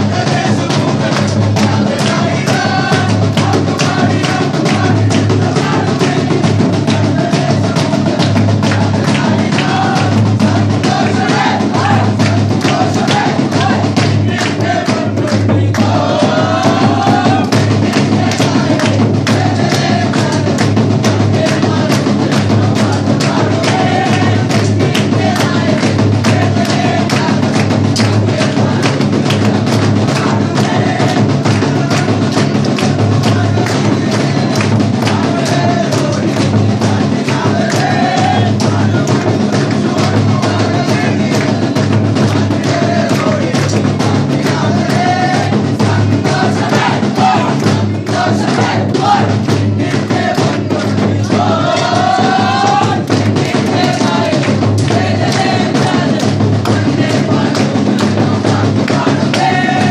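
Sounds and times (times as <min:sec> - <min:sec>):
group singing in chorus: 0:00.0 - 0:59.9
hand drum beat: 0:00.0 - 0:59.9
people clapping along: 0:00.0 - 0:59.9.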